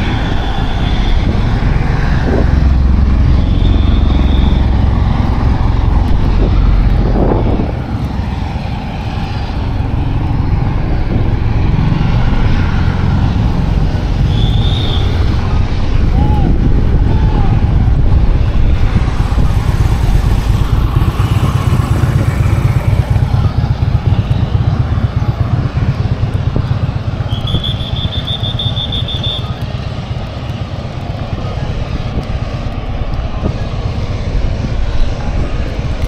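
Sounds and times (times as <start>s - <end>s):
helicopter rotor and engine: 0.0s - 36.0s.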